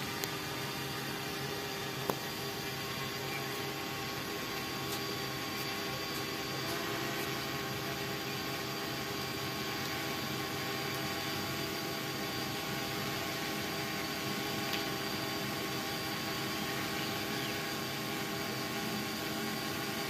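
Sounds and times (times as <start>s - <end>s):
drone motors humming: 0.0s - 20.0s.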